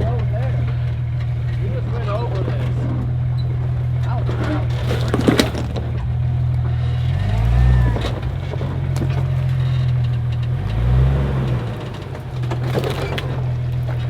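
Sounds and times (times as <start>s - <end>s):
engine throttle blips: 0.0s - 14.0s
off-road vehicle engine idling: 0.0s - 14.0s.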